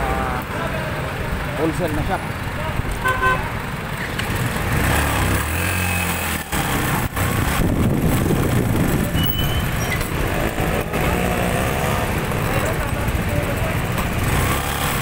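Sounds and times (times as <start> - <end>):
road noise: 0.0 - 15.0
motorcycle engine running: 2.4 - 15.0.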